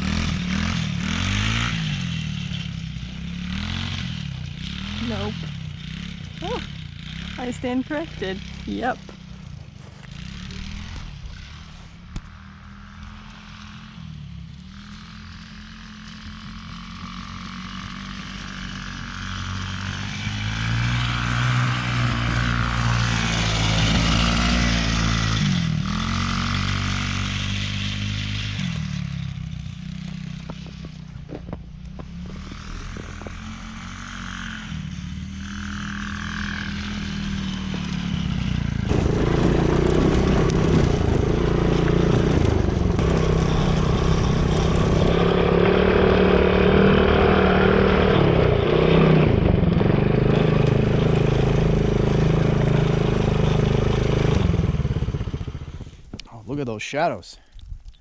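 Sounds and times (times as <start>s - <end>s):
atv engine revving: 0.0s - 56.3s.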